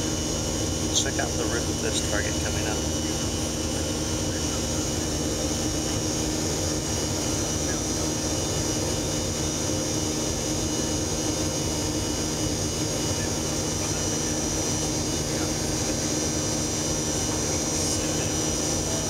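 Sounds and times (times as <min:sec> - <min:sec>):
aircraft cabin engine noise: 0:00.0 - 0:19.0.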